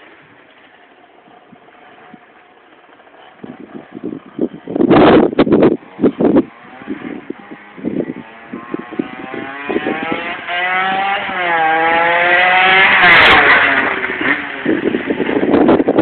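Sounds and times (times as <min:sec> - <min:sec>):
motorcycle revving past: 0:00.0 - 0:16.0.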